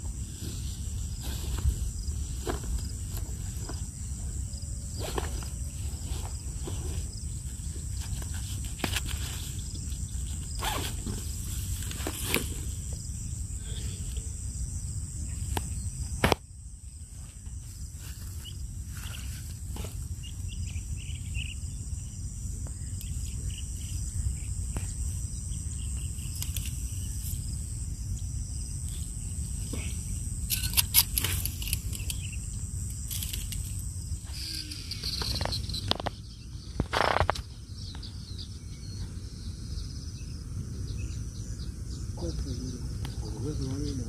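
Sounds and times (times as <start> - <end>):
high-pitched insect buzz: 0.0 - 44.0.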